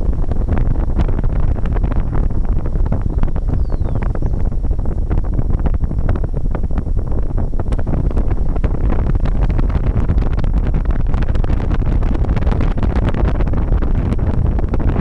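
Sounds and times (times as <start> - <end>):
road and engine rumble: 0.0 - 14.6
wind rushing over microphone: 0.0 - 15.0.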